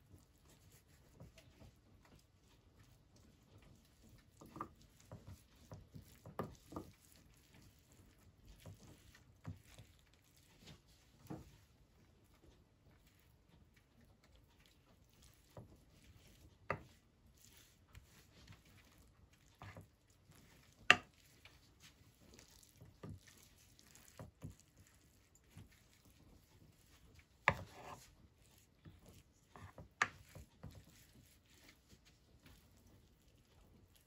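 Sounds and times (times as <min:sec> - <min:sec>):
soft taps and squishes: 0:00.0 - 0:34.0.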